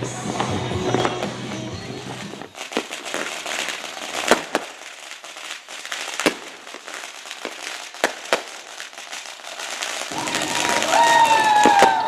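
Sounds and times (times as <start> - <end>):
fireworks bangs: 0.0 - 12.0
fireworks crackling and pops: 0.0 - 12.0.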